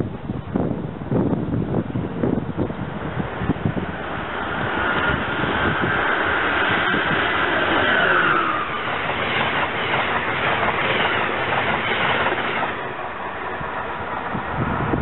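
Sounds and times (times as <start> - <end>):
rushing rail noise of coaches: 0.0 - 15.0
electric locomotive whine: 0.1 - 15.0.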